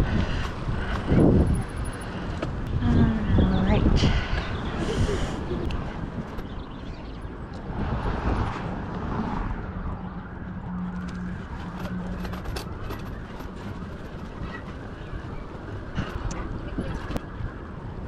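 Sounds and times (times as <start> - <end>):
road traffic: 0.0 - 18.0
vehicle engine hum: 0.0 - 18.0
wind rushing over microphone: 0.0 - 18.0.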